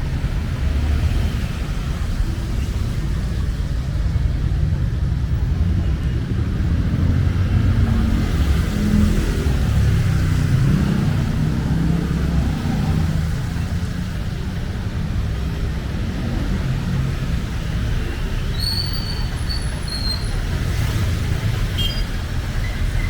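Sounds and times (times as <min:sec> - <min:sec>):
traffic hum: 0:00.0 - 0:23.0
vehicle engine rumble: 0:00.0 - 0:23.0.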